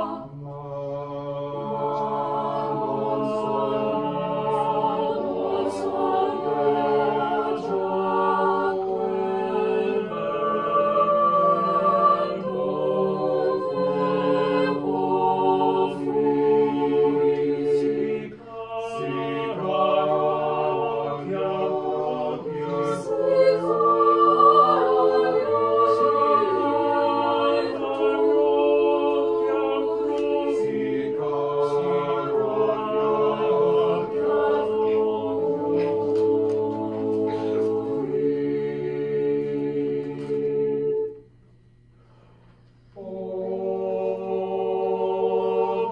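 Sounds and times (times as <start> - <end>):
mixed choir singing a cappella: 0.0 - 41.3, 42.9 - 45.9.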